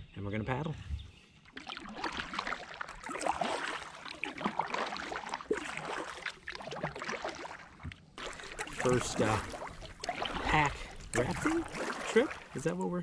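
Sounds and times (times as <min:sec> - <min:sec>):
kayak paddle splashing: 0:01.4 - 0:13.0
water dripping and gurgling: 0:01.4 - 0:13.0.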